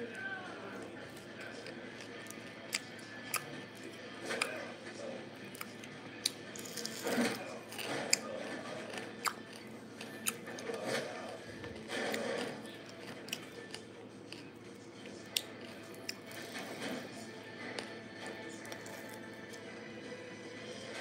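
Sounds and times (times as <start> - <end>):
person chewing: 0.8 - 4.6, 5.4 - 19.6.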